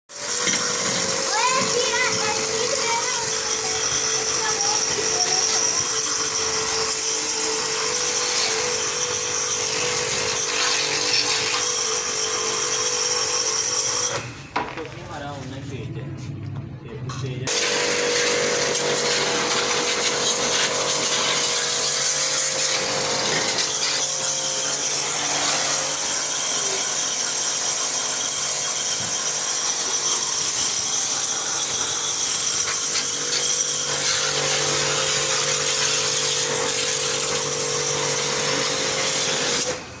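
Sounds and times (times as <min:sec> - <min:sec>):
power tool motor running: 0:00.1 - 0:14.4, 0:17.5 - 0:40.0.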